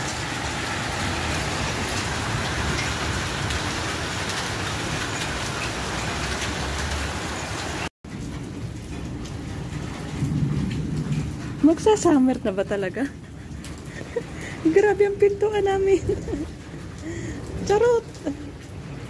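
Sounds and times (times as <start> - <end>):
hail pelting on concrete: 0.0 - 19.0.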